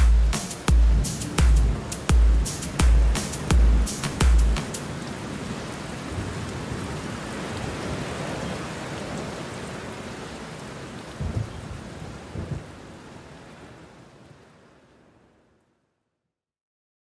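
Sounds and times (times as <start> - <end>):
rain-like noise: 0.0 - 16.1.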